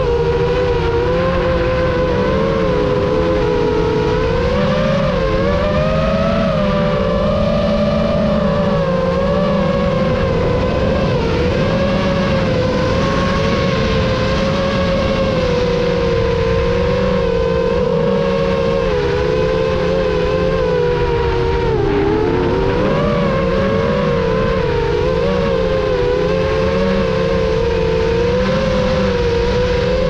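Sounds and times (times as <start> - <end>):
drone motors whining: 0.0 - 30.0
wind rumble: 0.0 - 30.0.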